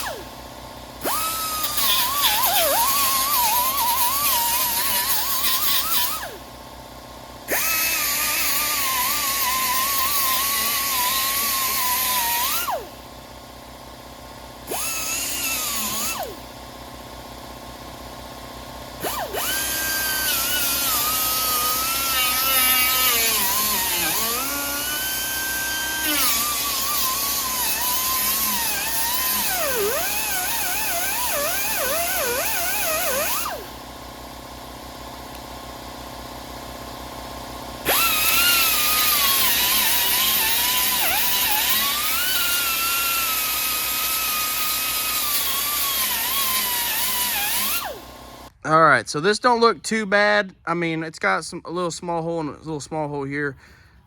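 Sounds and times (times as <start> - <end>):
power grinder grinding metal: 0.0 - 6.4, 7.1 - 16.5, 18.4 - 35.4, 37.6 - 48.5.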